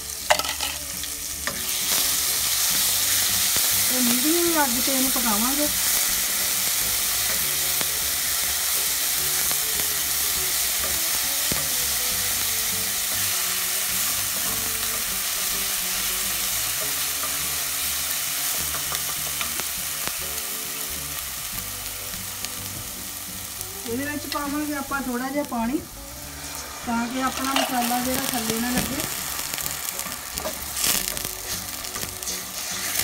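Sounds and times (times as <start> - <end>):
paste sizzling in hot oil: 0.0 - 33.0.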